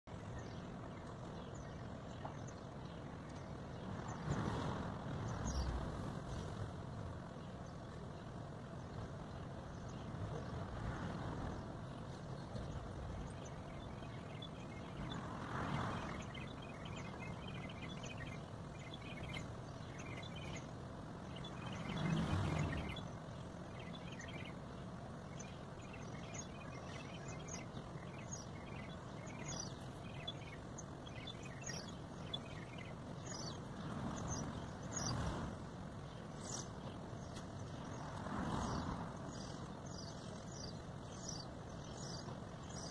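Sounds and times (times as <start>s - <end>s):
small birds chirping: 0.0s - 42.9s
steady background hum: 0.1s - 42.9s
vehicles passing: 0.1s - 42.9s.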